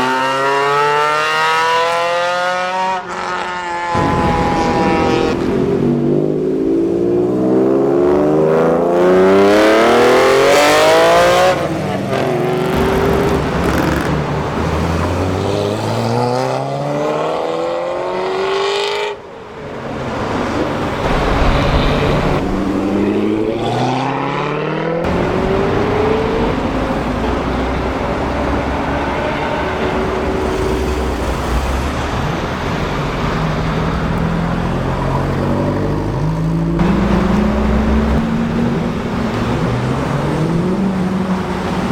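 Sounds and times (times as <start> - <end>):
car engines accelerating hard: 0.0 - 41.9.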